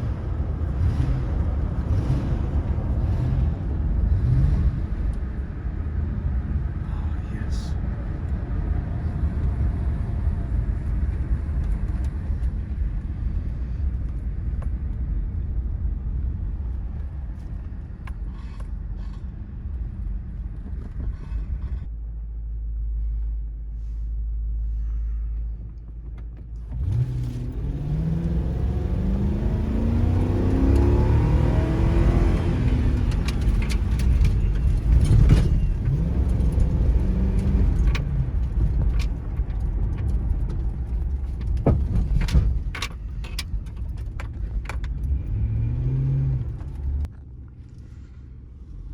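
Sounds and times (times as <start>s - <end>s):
car engine accelerating: 0.0s - 48.9s
road rumble: 0.0s - 48.9s.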